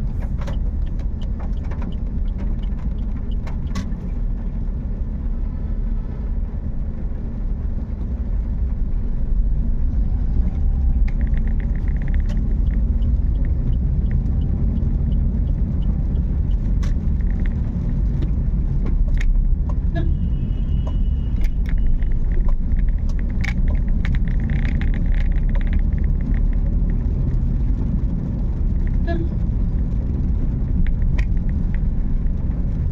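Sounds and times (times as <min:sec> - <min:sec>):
raindrops ticking on car: 0:00.0 - 0:05.5, 0:10.5 - 0:32.9
road and engine rumble: 0:00.0 - 0:32.9.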